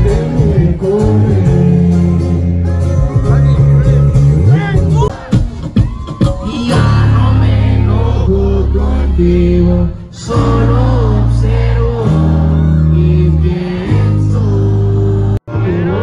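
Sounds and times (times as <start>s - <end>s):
deep bass notes: 0.0s - 5.4s, 6.4s - 16.0s
guitar: 0.0s - 16.0s
person singing: 0.0s - 16.0s.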